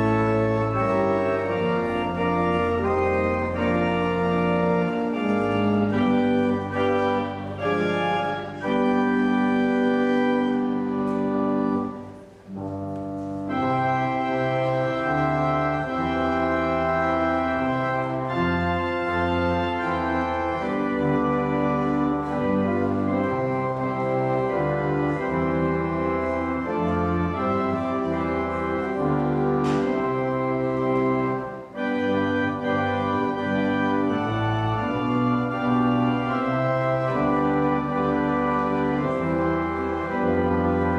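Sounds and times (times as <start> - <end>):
church organ playing chords: 0.0 - 40.9.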